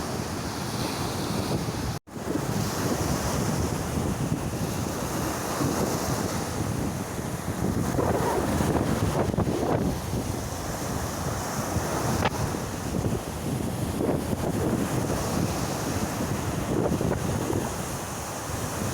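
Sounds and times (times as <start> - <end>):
sea waves washing ashore: 0.0 - 18.9
wind buffeting microphone: 0.0 - 18.9.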